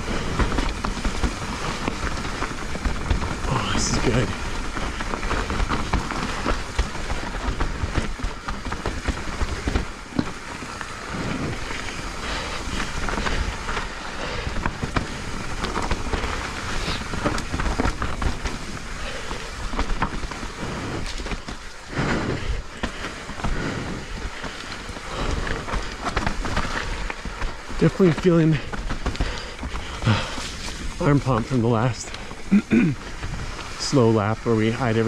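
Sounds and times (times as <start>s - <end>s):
bike rattling over bumps: 0.0s - 35.0s
bike tyres rolling over dirt: 0.0s - 35.0s.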